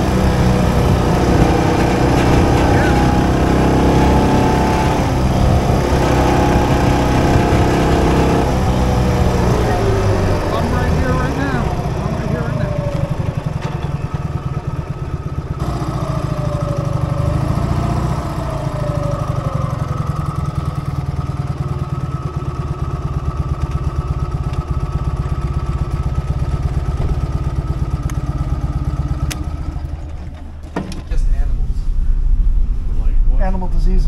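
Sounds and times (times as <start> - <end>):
motorcycle engine idling: 0.0 - 3.4, 5.1 - 17.5, 18.3 - 30.8.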